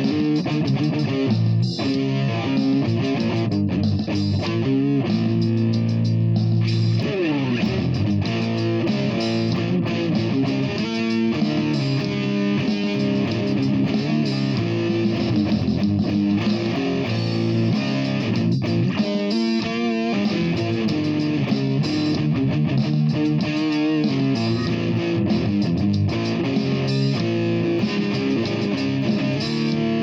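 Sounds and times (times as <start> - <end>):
electric guitar sustained notes: 0.0 - 30.0.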